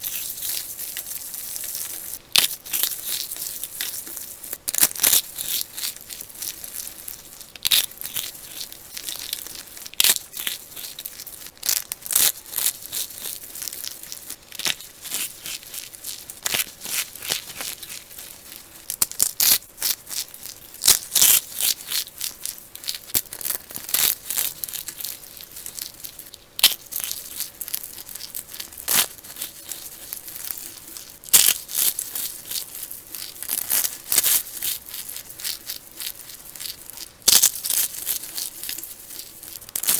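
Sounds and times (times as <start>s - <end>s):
brittle block crunching: 0.0s - 39.9s.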